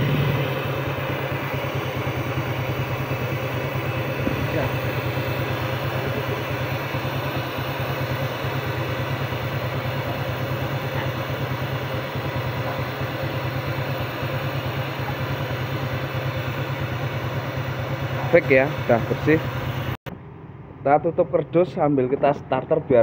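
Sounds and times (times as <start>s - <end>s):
air compressor running: 0.0s - 20.3s.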